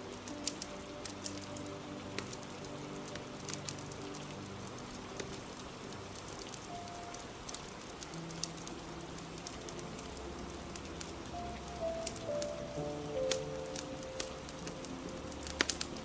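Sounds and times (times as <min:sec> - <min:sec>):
faint soft music notes: 0:00.0 - 0:16.0
fire crackling and popping: 0:00.0 - 0:16.0
rain hiss: 0:00.0 - 0:16.0.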